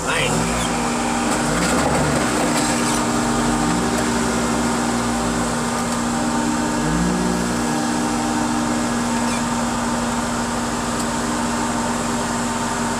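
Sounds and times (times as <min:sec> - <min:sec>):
hydraulic machine hum: 0:00.0 - 0:12.9.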